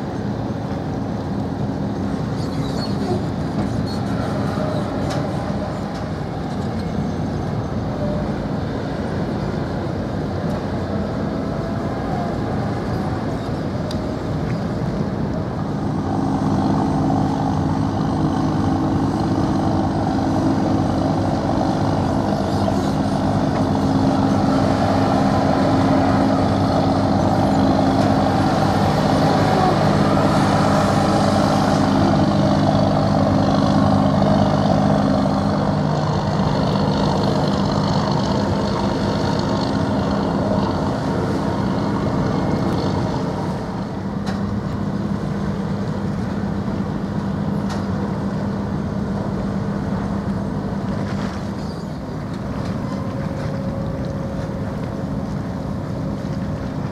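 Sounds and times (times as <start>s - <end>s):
ship diesel engine drone: 0.0s - 56.9s.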